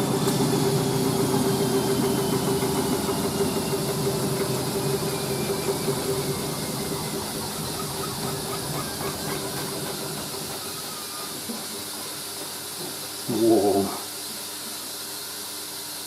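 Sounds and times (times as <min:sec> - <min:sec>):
washing machine drum rushing: 0:00.0 - 0:13.3
washing machine motor hum: 0:00.0 - 0:16.0.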